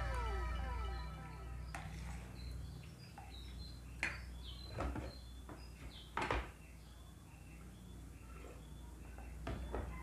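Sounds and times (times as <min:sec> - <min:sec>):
small birds chirping: 0:00.6 - 0:10.0.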